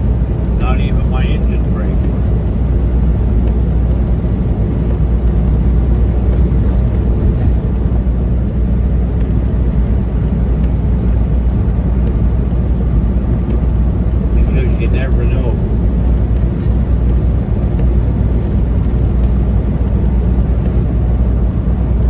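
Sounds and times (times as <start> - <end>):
road noise: 0.0 - 22.0
truck engine droning: 0.0 - 22.0.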